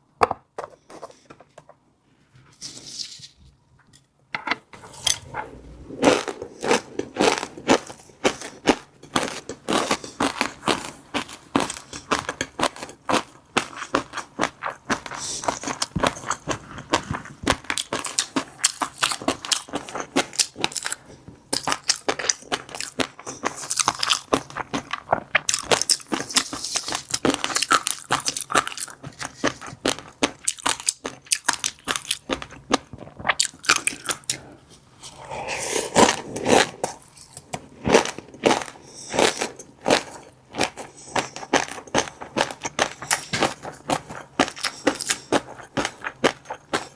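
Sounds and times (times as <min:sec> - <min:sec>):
person chewing crunchy fish roe: 0:05.7 - 0:46.9.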